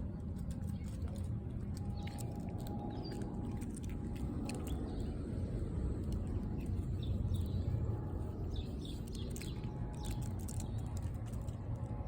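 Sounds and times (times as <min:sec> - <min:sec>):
low rumble: 0:00.0 - 0:12.0
small birds chirping: 0:00.0 - 0:12.0.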